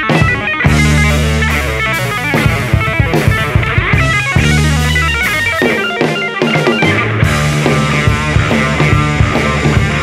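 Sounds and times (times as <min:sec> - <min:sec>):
drum kit: 0:00.0 - 0:10.0
electric bass: 0:00.0 - 0:10.0
electric guitar runs: 0:00.0 - 0:10.0.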